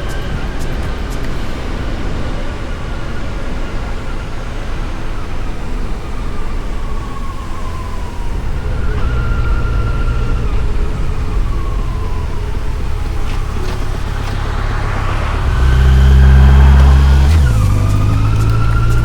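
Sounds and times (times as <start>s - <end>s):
motorcycle engine whine: 0.0s - 19.0s
wind rumble: 0.0s - 19.0s.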